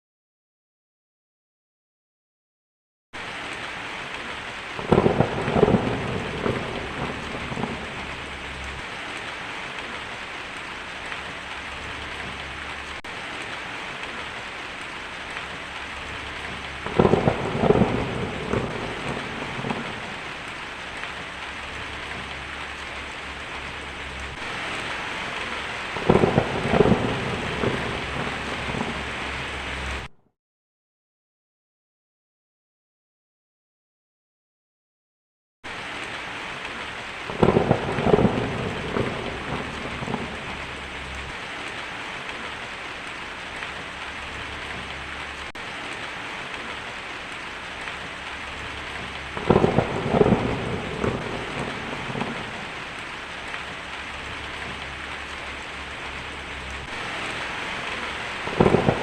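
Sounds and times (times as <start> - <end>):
heavy rain: 3.2 - 30.2, 35.7 - 59.0
thunder cracking and rumbling: 4.1 - 30.1, 35.7 - 59.0.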